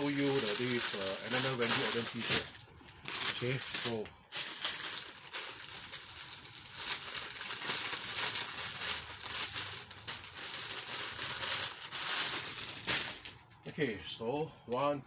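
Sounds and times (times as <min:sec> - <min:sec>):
t-shirt crinkling rustle: 0:00.0 - 0:13.5.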